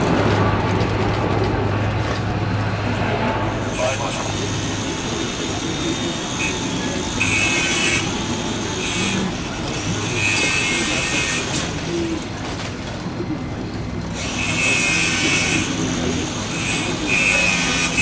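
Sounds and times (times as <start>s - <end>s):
engine and traffic rumble: 0.0s - 18.0s.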